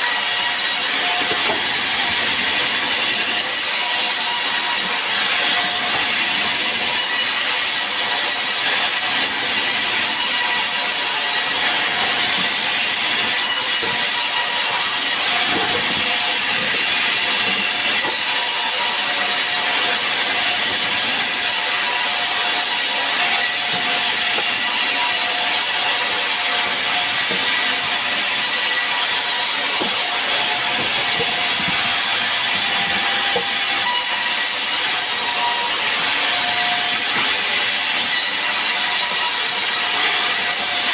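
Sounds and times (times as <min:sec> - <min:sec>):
sawmill saw running: 0:00.0 - 0:40.9.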